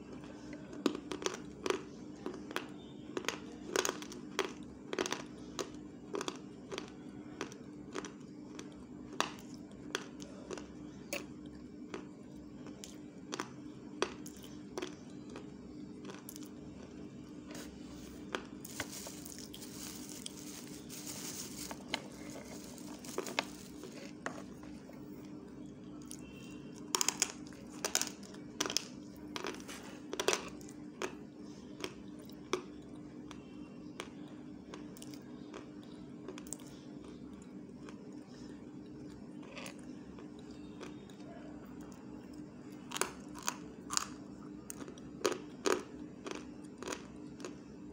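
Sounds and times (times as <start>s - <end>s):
steady low hum: 4.6s - 47.9s.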